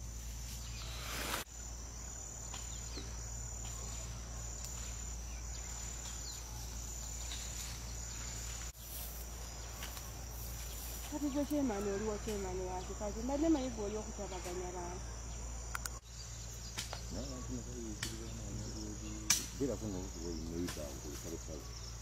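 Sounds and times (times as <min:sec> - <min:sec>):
high-pitched insect trilling: 0:00.0 - 0:22.0.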